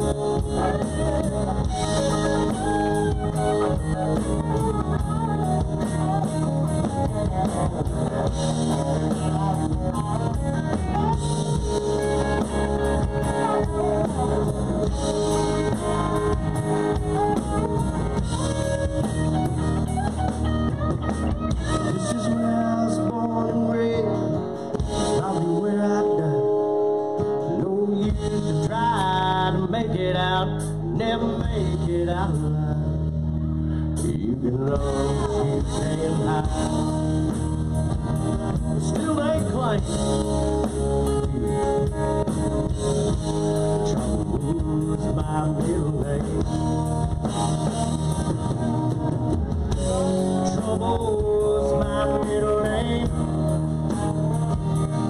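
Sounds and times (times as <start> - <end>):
drum kit: 0.0 - 23.4, 24.6 - 25.7, 28.0 - 32.6, 34.0 - 55.0
guitar: 0.0 - 55.0.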